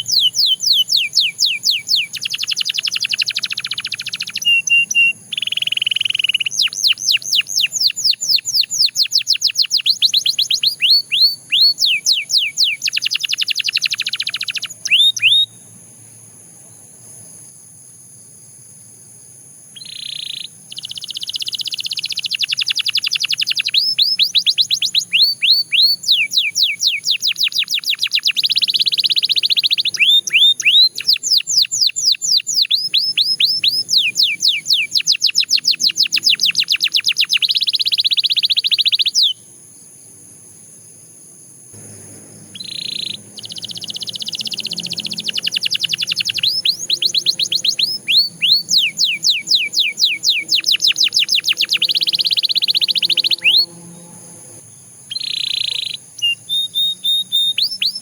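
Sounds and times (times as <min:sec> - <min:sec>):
canary singing trills: 0:00.0 - 0:15.8, 0:19.7 - 0:39.5, 0:41.8 - 0:58.0.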